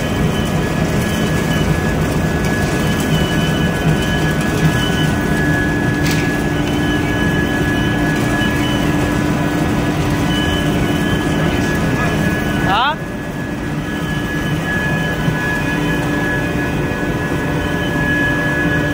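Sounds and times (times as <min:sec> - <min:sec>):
pellet mill running: 0:00.0 - 0:18.9.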